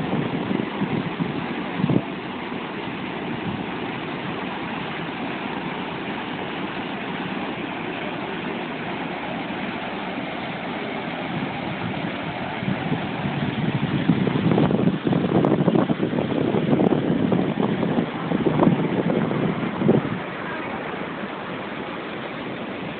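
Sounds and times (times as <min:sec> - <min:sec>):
waterfall pouring into pool: 0:00.0 - 0:22.9.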